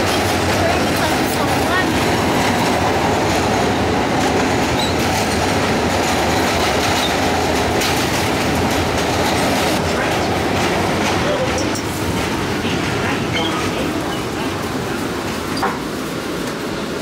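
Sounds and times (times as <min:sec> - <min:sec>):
train wheels on rail: 0:00.0 - 0:17.0.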